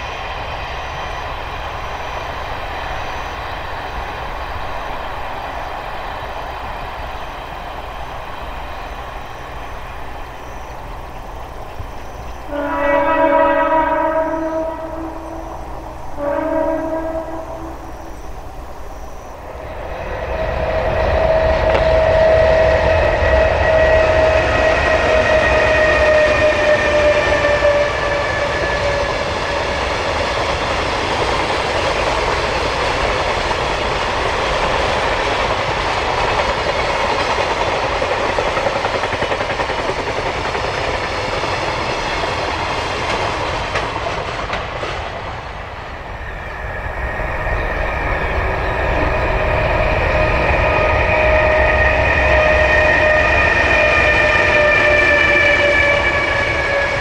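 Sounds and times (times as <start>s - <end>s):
electric locomotive whine: 0.0s - 57.0s
train wagons rumbling over rails: 0.0s - 57.0s.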